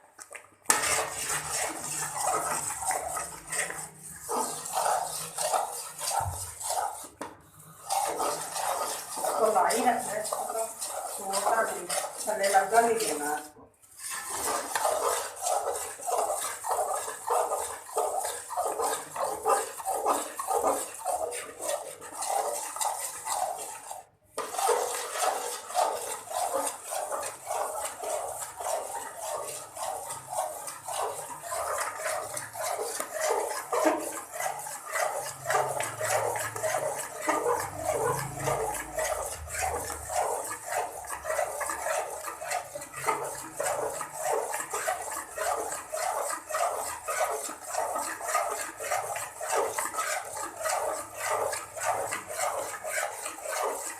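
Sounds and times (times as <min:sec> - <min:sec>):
spoon scraping a cooking pan: 0:00.7 - 0:53.9.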